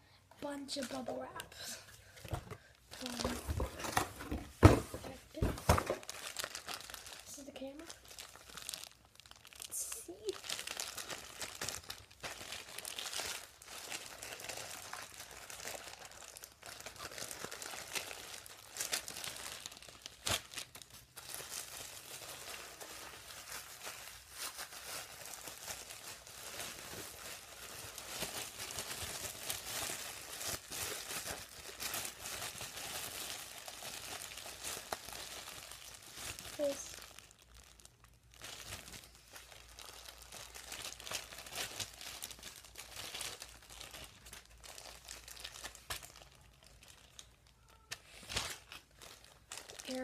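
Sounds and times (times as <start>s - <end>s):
plastic wrapping crinkling: 0.4s - 50.0s.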